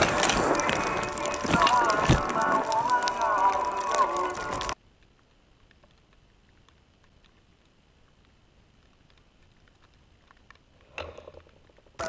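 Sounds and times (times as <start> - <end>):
faint background hiss: 0.0 - 12.0
faint ticks: 0.0 - 12.0.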